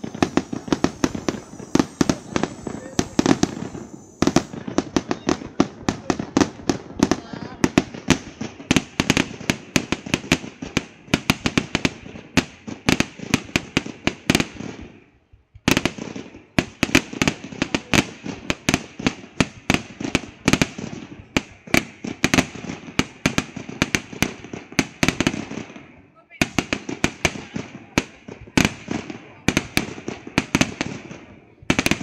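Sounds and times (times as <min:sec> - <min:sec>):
fireworks bangs: 0:00.0 - 0:15.0, 0:15.6 - 0:32.0.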